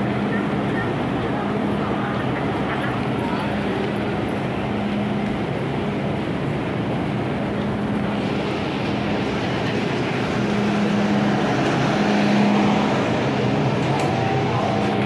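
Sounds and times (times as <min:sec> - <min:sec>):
train rumble with motor hum: 0:00.0 - 0:15.0.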